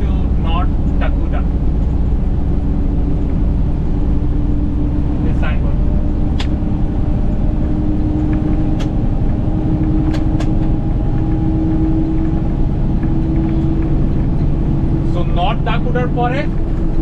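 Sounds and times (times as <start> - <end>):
truck engine and road drone: 0.0 - 17.0.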